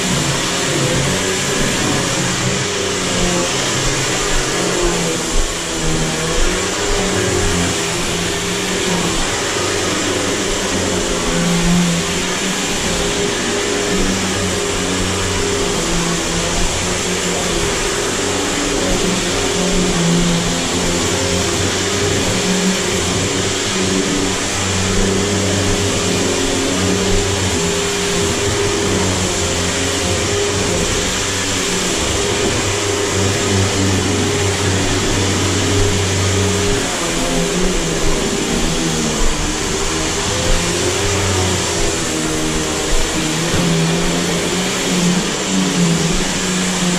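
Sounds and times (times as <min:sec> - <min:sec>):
vacuum cleaner on hardwood floor: 0:00.0 - 0:46.9.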